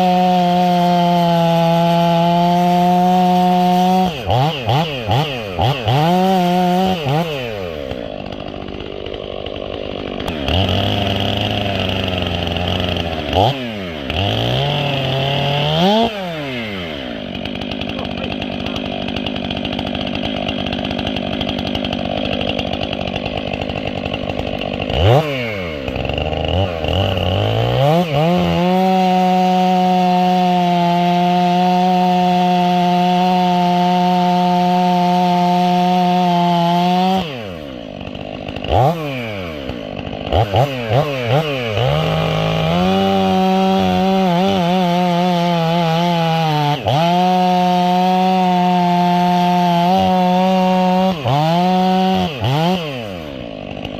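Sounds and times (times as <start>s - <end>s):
chainsaw revving and cutting wood: 0.0s - 53.9s.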